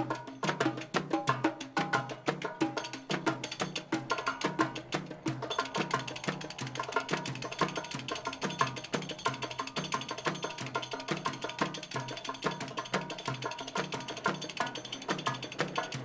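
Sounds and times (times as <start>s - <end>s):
woodblock-like percussion beat: 0.0s - 16.0s.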